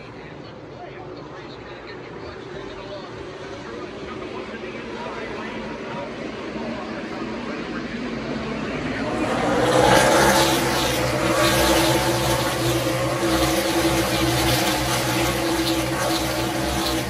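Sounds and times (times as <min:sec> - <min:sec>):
race cars roaring past: 0:03.2 - 0:17.0.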